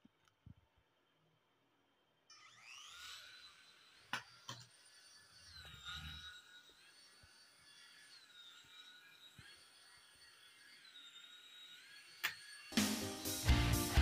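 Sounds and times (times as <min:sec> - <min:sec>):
toy motors high whine: 0:02.2 - 0:14.0.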